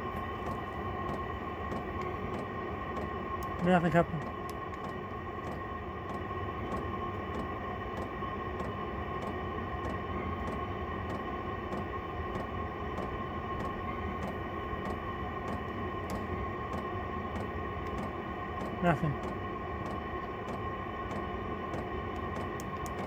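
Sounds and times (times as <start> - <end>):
heater blower hum with whine: 0.0 - 23.0.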